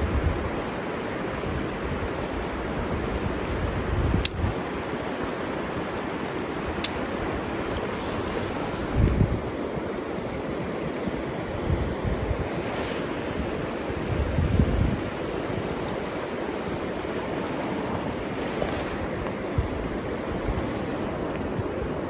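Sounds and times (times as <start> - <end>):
river water rushing: 0.0 - 22.0
wind buffeting microphone: 0.0 - 22.0.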